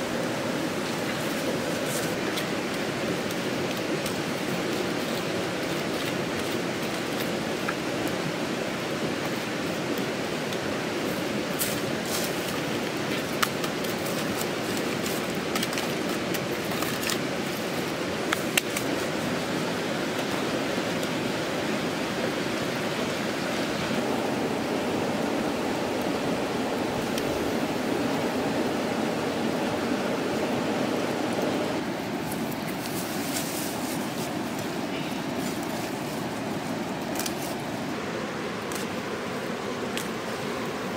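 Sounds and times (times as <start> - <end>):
fire crackling: 0.0 - 40.9
steady rushing noise: 0.0 - 40.9.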